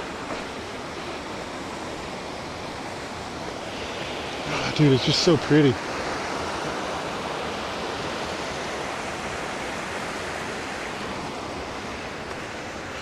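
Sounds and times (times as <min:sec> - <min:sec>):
water rushing down rocky cascade: 0:00.0 - 0:13.0.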